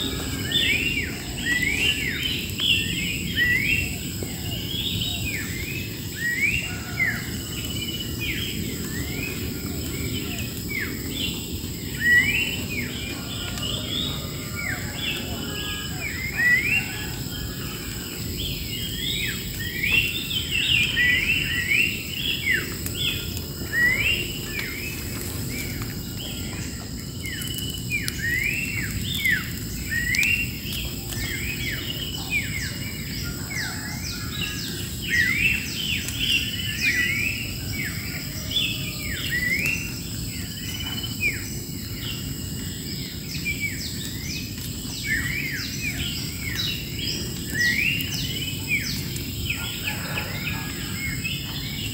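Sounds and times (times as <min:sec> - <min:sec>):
birds chirping and calling: 0:00.0 - 0:51.9
high insect drone: 0:00.0 - 0:51.9.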